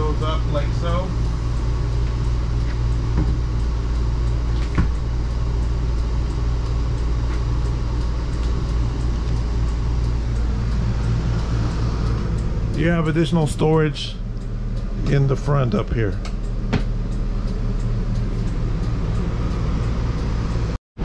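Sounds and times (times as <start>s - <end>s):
generator droning: 0.0s - 20.8s.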